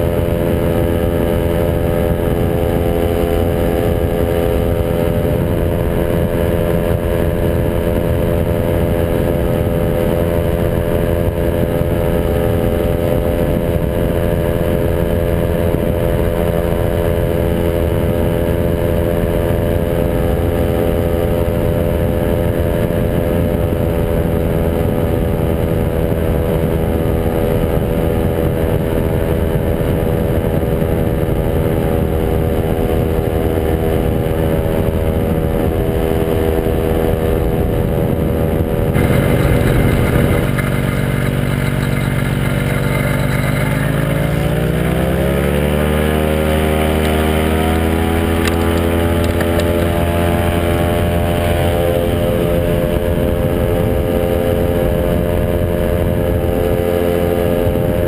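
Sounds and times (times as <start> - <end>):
ultralight engine and propeller: 0.0 - 58.0
wind rushing over microphone: 0.0 - 58.0.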